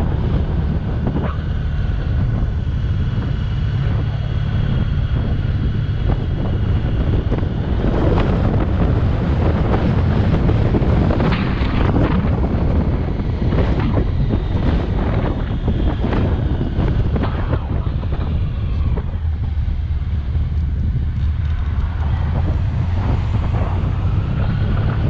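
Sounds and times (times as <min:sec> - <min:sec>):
motorcycle engine drone: 0:00.0 - 0:25.0
wind buffeting microphone: 0:00.0 - 0:25.0.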